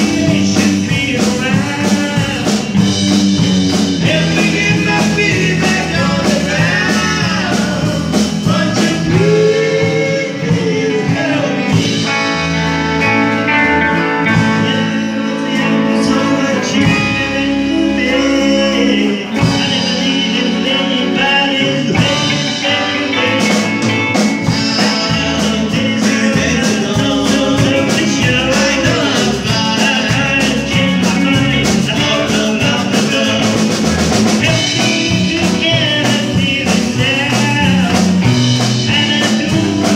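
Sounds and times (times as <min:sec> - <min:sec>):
lead vocal singing: 0:00.0 - 0:39.9
live rock band playing: 0:00.0 - 0:39.9.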